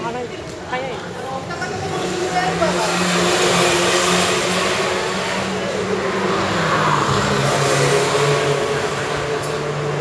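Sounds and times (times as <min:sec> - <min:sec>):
car engine revving: 0:01.6 - 0:10.0.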